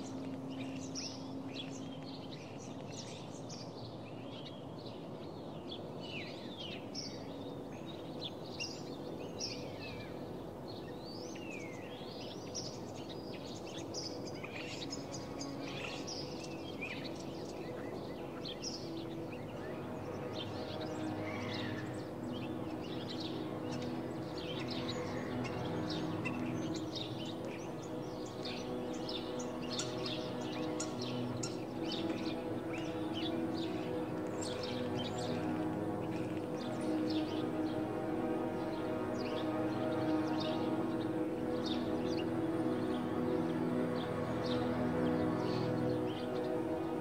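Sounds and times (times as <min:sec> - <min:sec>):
small birds chirping and singing: 0:00.0 - 0:47.0
steady low background noise: 0:00.0 - 0:47.0.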